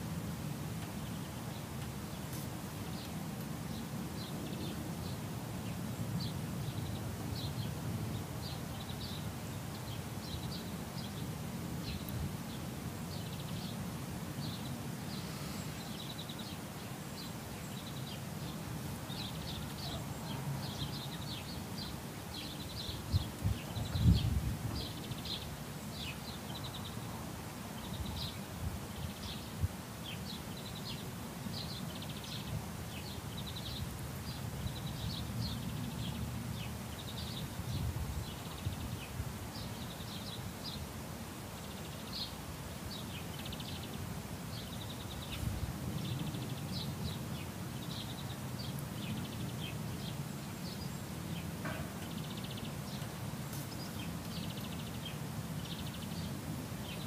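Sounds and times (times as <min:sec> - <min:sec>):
small birds chirping: 0:00.8 - 0:57.0.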